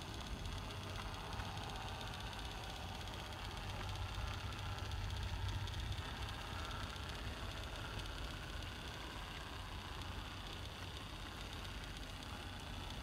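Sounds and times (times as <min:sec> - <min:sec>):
model train motor humming: 0:00.0 - 0:13.0.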